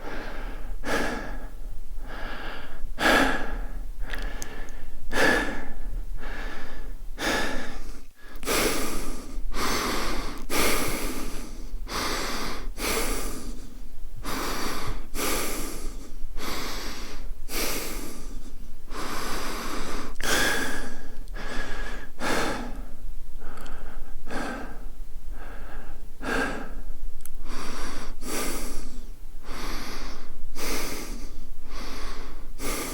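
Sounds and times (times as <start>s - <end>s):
man breathing quickly: 0.0s - 32.9s.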